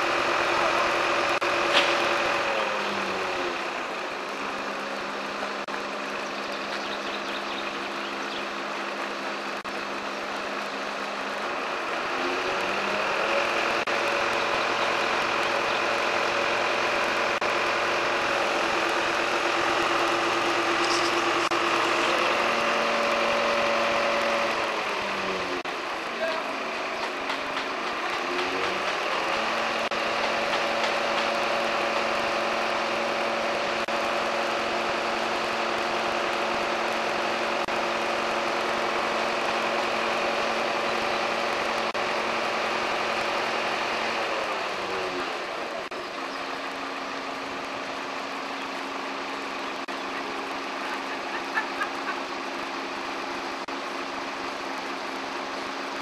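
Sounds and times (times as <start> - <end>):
crane engine droning whine: 0.0 - 56.0.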